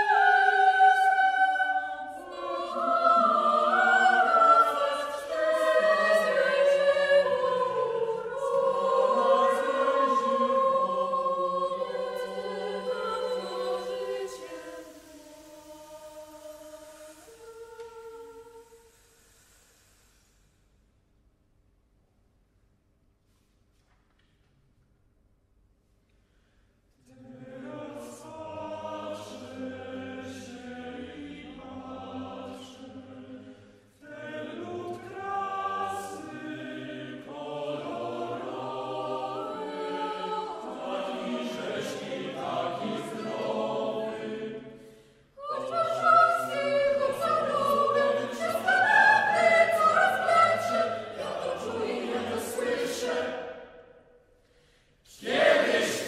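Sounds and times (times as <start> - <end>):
mixed choir singing: 0.0 - 18.9, 27.0 - 54.1, 55.1 - 56.0.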